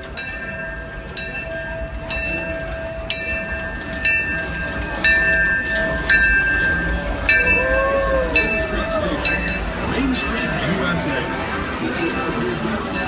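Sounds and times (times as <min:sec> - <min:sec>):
locomotive bell ringing: 0:00.0 - 0:13.0
low rumble of train: 0:00.0 - 0:13.0.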